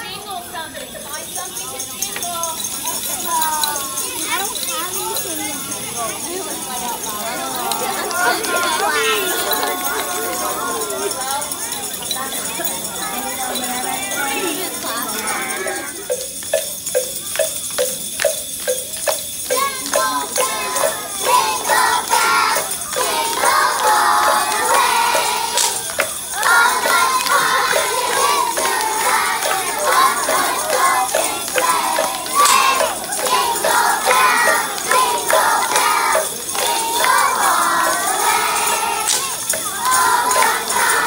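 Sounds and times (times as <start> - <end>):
jingle bells shaking: 0.0 - 41.0
children's choir singing: 1.4 - 16.4, 19.2 - 41.0.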